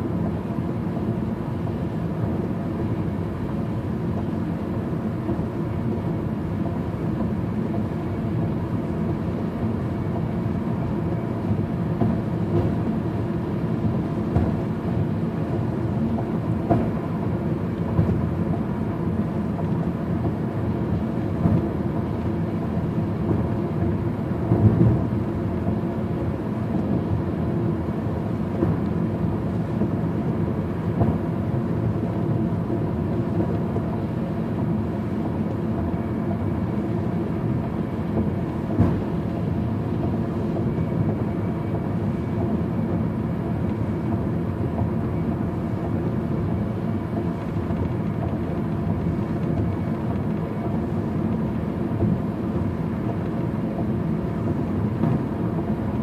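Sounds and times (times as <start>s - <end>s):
road and engine noise inside car: 0.0s - 56.0s.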